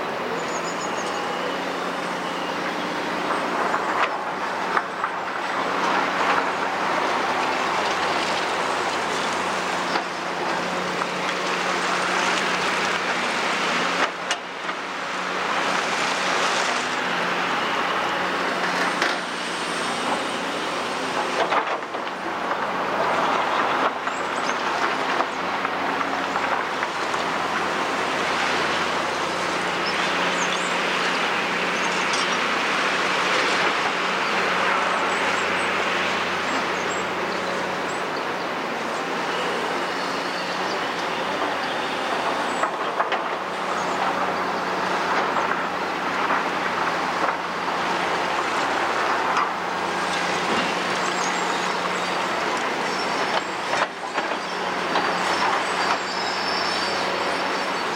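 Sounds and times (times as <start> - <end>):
excavator diesel engine under load: 0.0 - 57.9.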